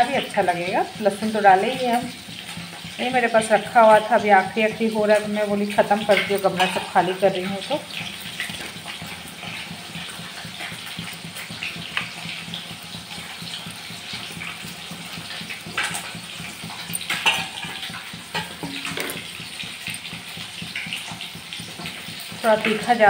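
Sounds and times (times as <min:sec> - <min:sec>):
fish frying in hot oil: 0:00.0 - 0:23.0.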